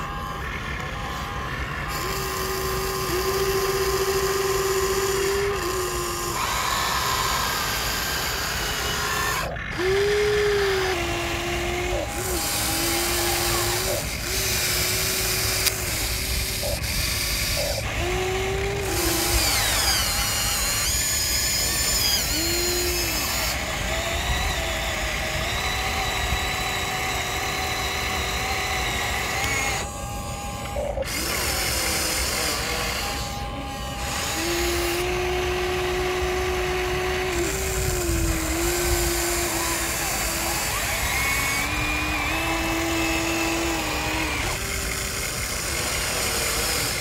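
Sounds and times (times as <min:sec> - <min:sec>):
small electric motors whining: 0:00.0 - 0:47.0.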